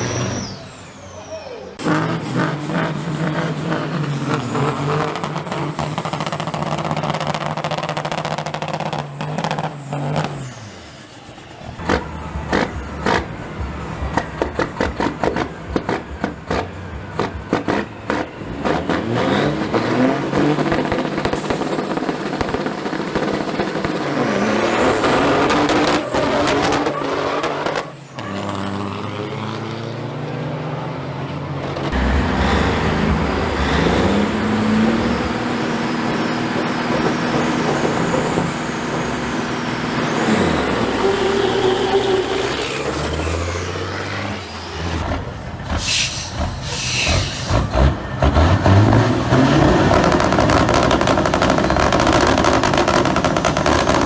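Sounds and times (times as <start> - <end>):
truck diesel engines accelerating: 0.0 - 54.0.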